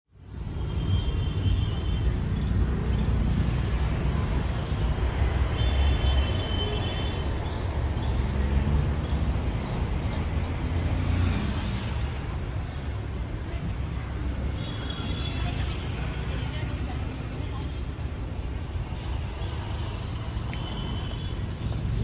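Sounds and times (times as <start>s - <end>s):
road traffic rumble: 0.1s - 22.0s.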